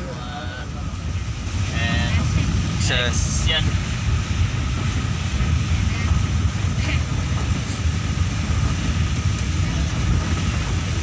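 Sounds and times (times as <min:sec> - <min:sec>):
road noise inside vehicle: 0:00.0 - 0:11.0
vehicle engine rumble: 0:00.0 - 0:11.0.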